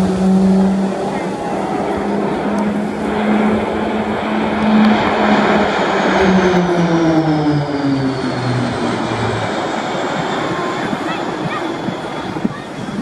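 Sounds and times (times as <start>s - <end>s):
aircraft flying past: 0.0s - 13.0s.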